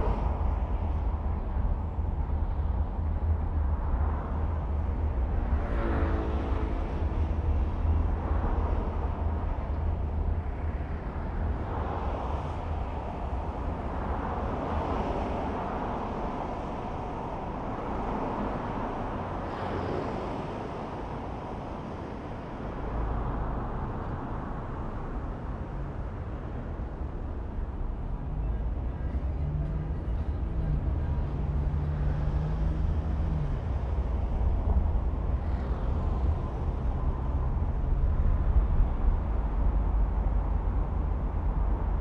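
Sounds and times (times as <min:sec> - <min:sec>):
car engine and road rumble: 0:00.0 - 0:42.0
city traffic: 0:00.0 - 0:42.0.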